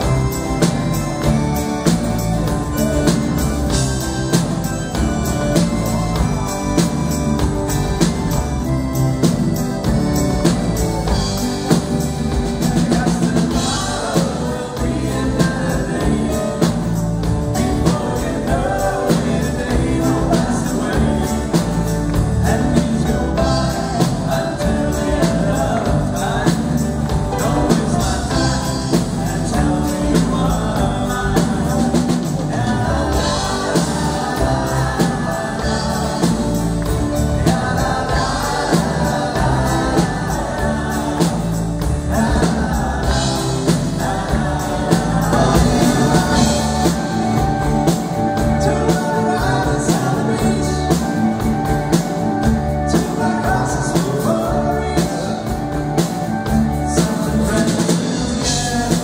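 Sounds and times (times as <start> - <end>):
acoustic guitars: 0.0 - 59.0
bass guitar: 0.0 - 59.0
drums: 0.0 - 59.0
several voices singing: 0.0 - 59.0.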